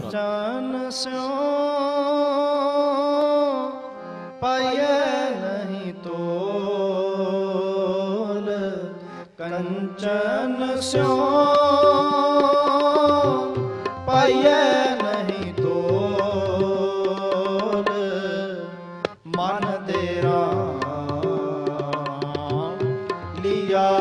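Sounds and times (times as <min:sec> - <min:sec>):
harmonium chords: 0:00.0 - 0:24.0
person singing: 0:04.5 - 0:24.0.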